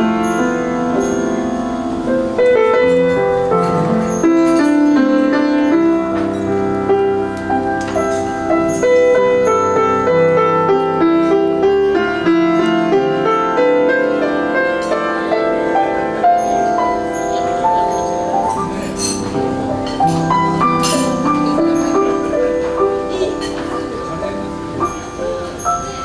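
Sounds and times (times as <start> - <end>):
solo grand piano: 0.0 - 26.0.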